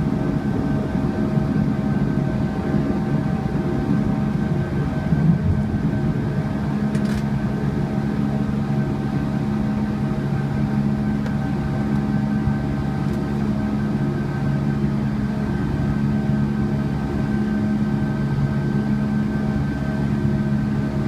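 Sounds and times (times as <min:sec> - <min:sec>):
aircraft engines humming in cabin: 0:00.0 - 0:21.0.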